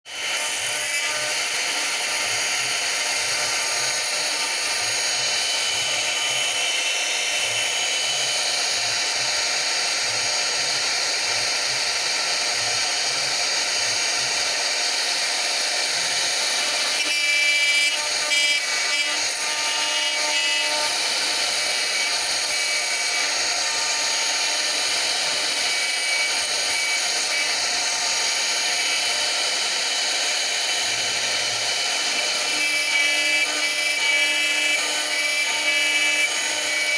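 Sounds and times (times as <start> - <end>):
cnc machine whining: 0.1 - 36.9.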